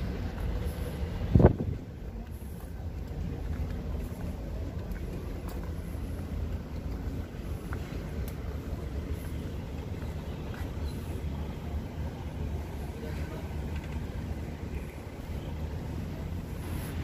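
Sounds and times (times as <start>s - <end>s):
ship engines rumbling: 0.0s - 17.0s.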